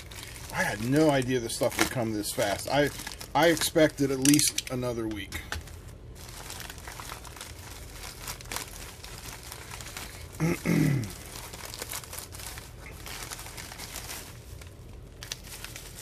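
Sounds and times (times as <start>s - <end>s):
plastic mailer crinkling: 0.0s - 16.0s.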